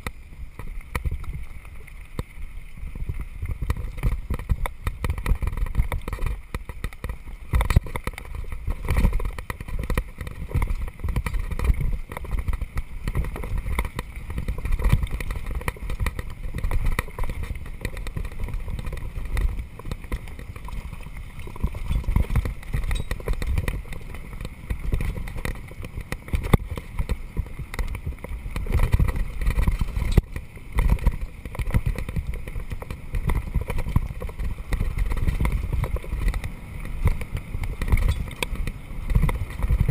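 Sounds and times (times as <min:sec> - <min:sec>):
wind rumble on microphone: 0:00.0 - 0:39.9
bike clattering and rattling: 0:02.8 - 0:39.9.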